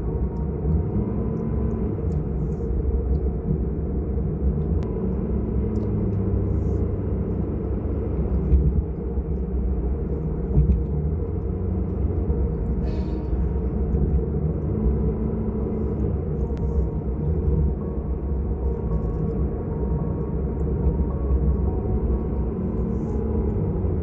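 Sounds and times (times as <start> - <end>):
car driving on highway: 0.0 - 24.0.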